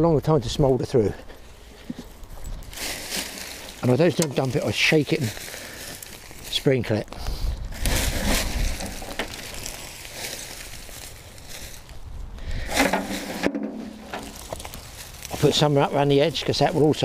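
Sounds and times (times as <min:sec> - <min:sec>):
hedge clippings rustling and crackling: 0:01.4 - 0:12.0, 0:12.6 - 0:17.0.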